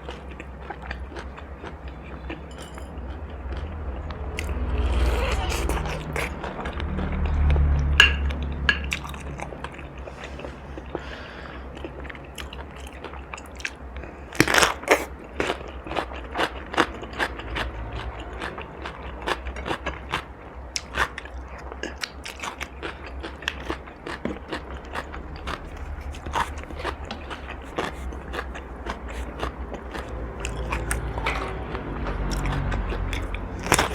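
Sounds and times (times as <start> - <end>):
chewing crunchy food: 0.0 - 33.9.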